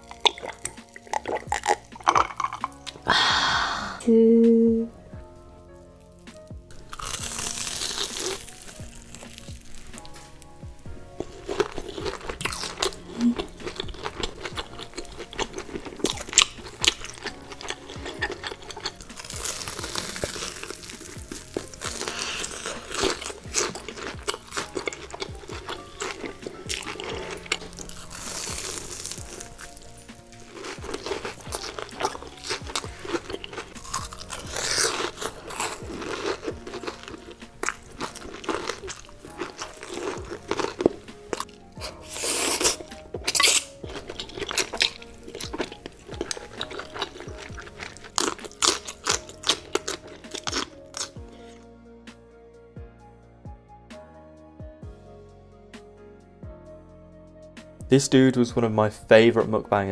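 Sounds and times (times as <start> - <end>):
crisp crunching and chewing: 0.0 - 3.1, 6.7 - 51.6
soft background music: 0.0 - 59.9.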